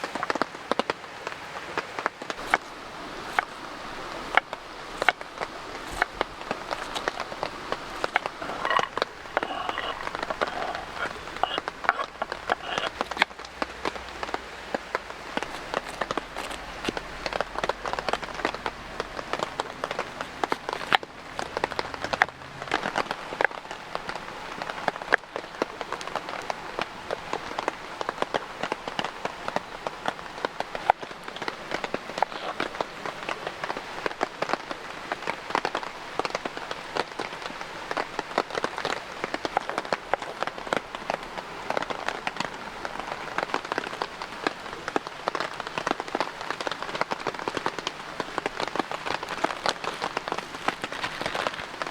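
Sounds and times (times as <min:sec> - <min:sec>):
light rain: 0:00.0 - 0:51.9
raindrops tapping on surfaces: 0:00.0 - 0:51.9.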